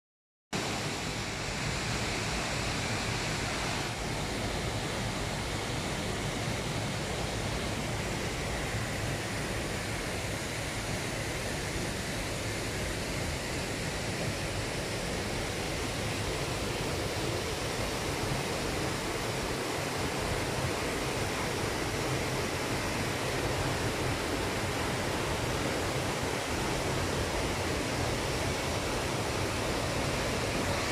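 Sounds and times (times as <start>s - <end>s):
waterfall rushing into pool: 0.6s - 30.9s.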